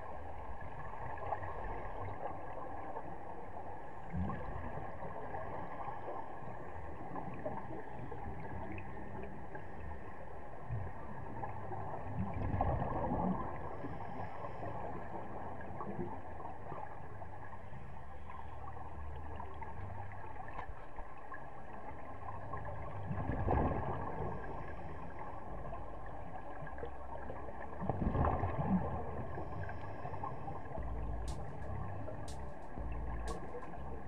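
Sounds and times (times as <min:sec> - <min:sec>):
muffled underwater rush: 0:00.0 - 0:34.0
scuba bubbles gurgling: 0:00.0 - 0:34.0.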